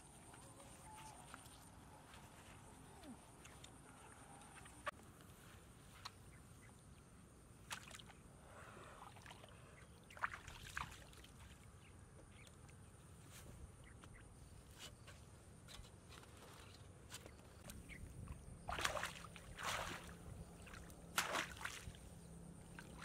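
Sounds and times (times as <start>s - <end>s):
hands working in muddy water: 0.3s - 12.9s, 14.2s - 23.0s.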